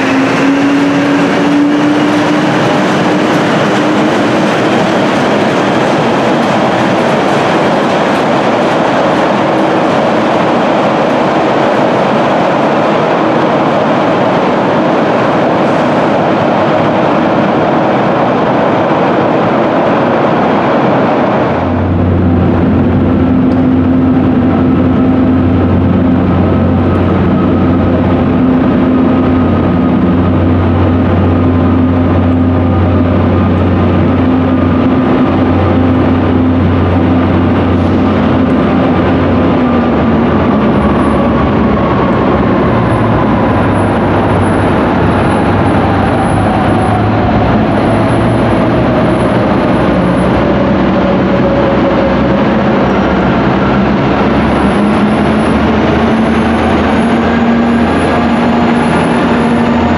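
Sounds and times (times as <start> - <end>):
diesel engine droning: 0.0 - 59.9
faint whine dropping in pitch: 0.0 - 59.9
passing train rumble: 0.0 - 59.9.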